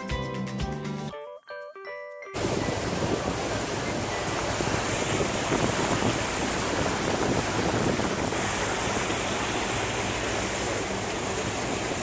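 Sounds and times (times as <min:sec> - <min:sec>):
sea water rushing: 0:02.4 - 0:12.0
wind on microphone: 0:02.4 - 0:12.0.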